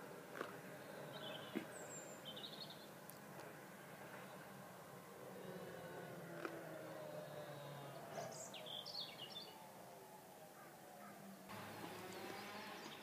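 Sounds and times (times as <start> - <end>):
quiet steady background noise: 0.0 - 13.0.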